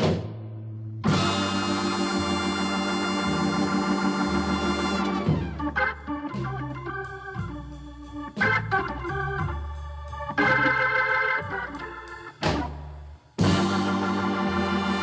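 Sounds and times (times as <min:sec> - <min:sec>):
organ-like keyboard chords: 0:00.0 - 0:15.0.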